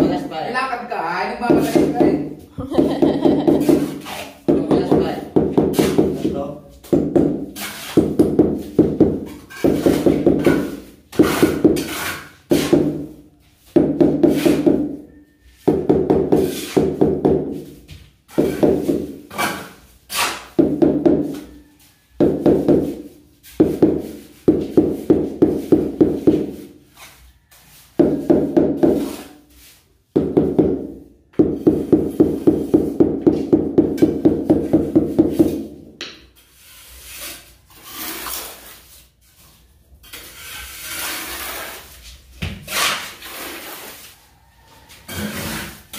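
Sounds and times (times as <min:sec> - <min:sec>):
trowel scraping mortar: 0:01.4 - 0:15.1, 0:16.2 - 0:20.6, 0:21.3 - 0:29.9, 0:31.5 - 0:45.9.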